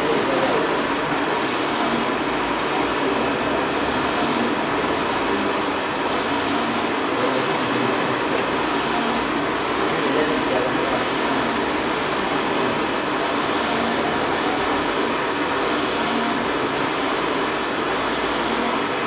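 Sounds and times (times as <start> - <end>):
printer carriage whirring: 0.0 - 19.0.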